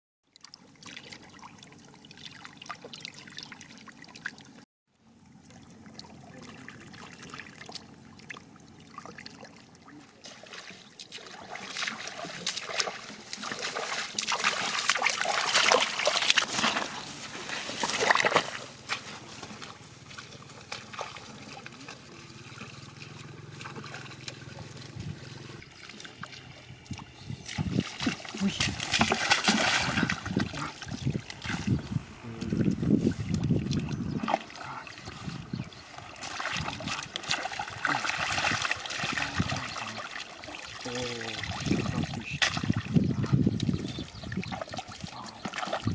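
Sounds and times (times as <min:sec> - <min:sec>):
shallow water splashing: 0:05.2 - 0:45.9.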